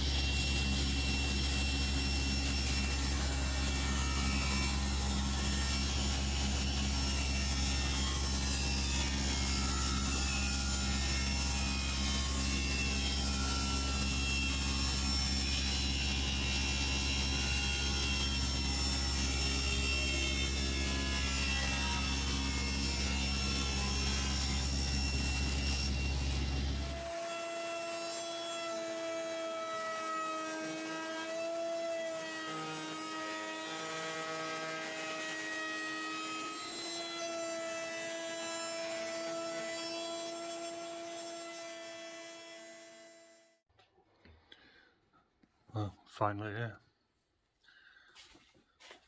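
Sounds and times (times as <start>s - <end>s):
router cutting wood: 0.0s - 43.6s
router motor drone: 0.0s - 43.6s.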